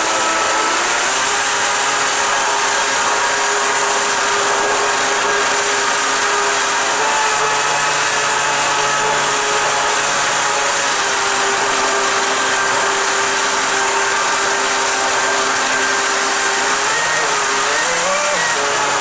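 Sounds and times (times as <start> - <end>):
churning water rushing: 0.0 - 19.0
electric motor whine: 0.0 - 19.0.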